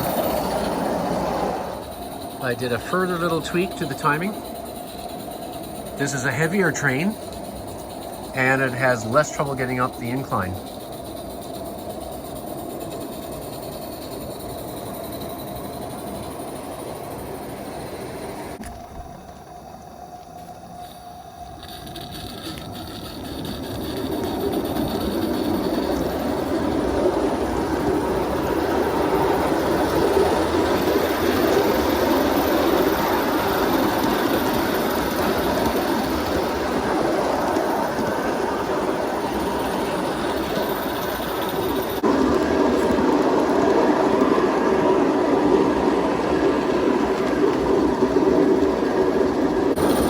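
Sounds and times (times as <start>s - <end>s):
steam locomotive hissing exhaust: 0.0s - 18.6s, 19.6s - 50.0s
rolling wheel noise: 0.0s - 50.0s.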